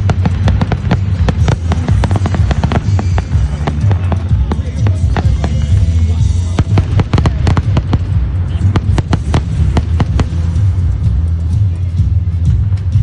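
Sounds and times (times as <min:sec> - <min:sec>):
fireworks bangs: 0:00.0 - 0:11.7
low rumble: 0:00.0 - 0:13.0.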